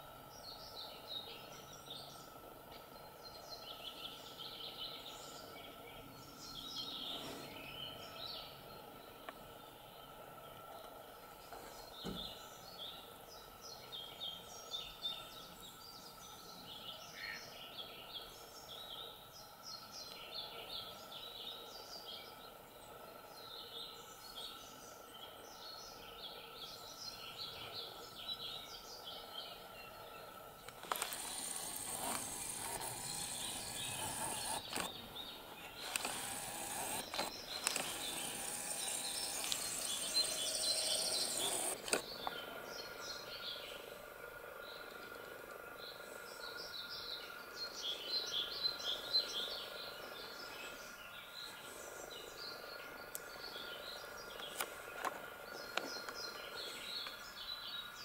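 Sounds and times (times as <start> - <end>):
birds chirping and trilling: 0.0 - 58.0
faint high hum: 0.0 - 58.0.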